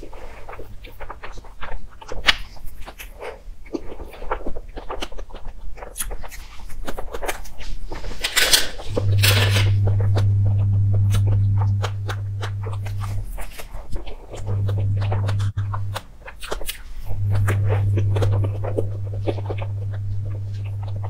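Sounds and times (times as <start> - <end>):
steady low hum: 0.0 - 4.9, 7.0 - 21.0
wet chewing and smacking: 0.0 - 8.2, 8.9 - 21.0.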